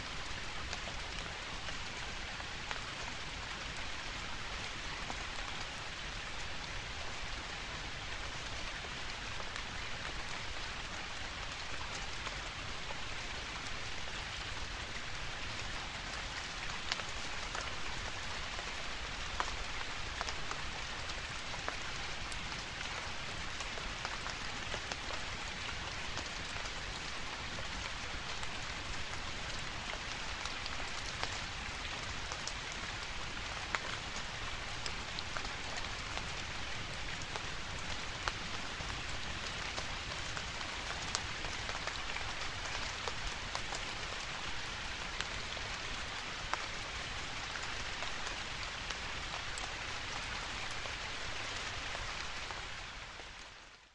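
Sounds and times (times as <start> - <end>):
rain falling on leaves: 0.0 - 53.9.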